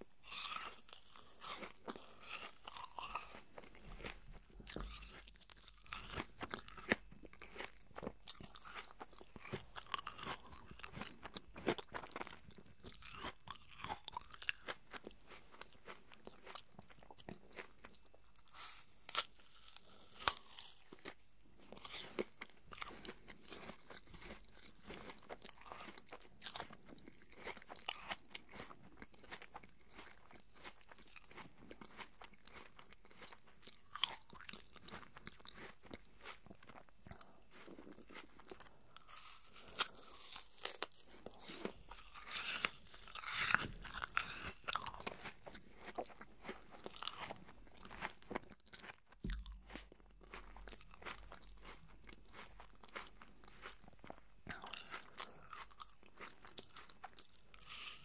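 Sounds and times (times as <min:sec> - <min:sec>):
apple crunching chewing: 0:00.1 - 0:58.0.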